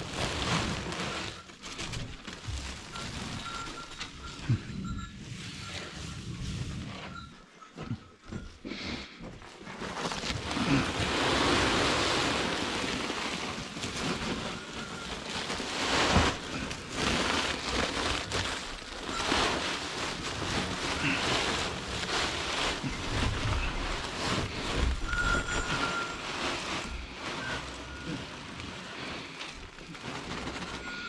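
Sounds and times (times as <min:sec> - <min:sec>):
plastic sacks rustling: 0:00.0 - 0:07.4, 0:08.8 - 0:31.0.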